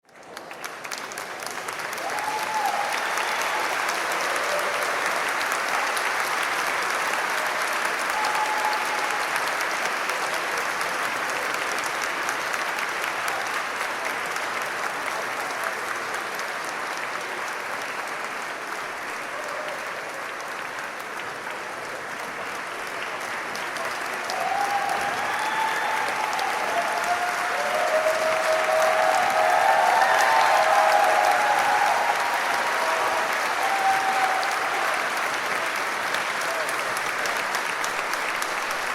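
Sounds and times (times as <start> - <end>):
large audience applauding: 0.0 - 38.9.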